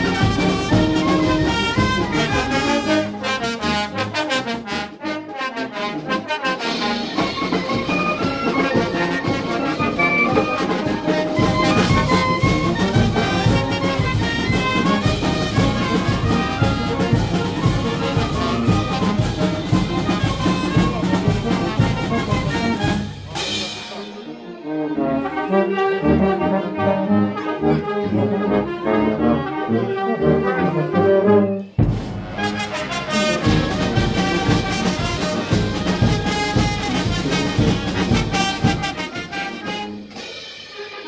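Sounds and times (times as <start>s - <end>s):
brass band playing: 0.0s - 41.0s.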